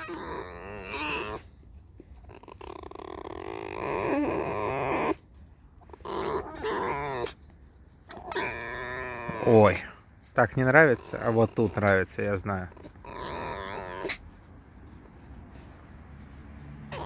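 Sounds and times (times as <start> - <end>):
fox squealing and whining: 0.0 - 10.0, 10.9 - 15.3.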